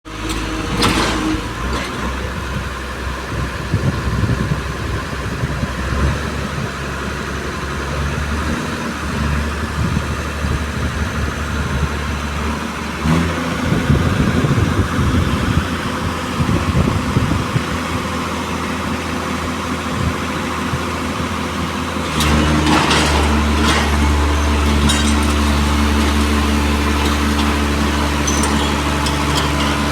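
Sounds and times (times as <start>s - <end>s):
diesel engine running: 0.1s - 29.9s.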